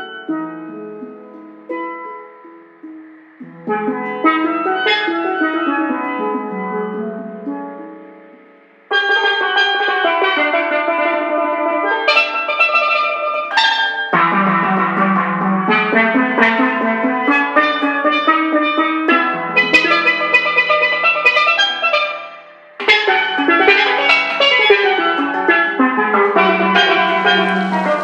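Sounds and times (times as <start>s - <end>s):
bright instrumental music: 0.0s - 28.0s.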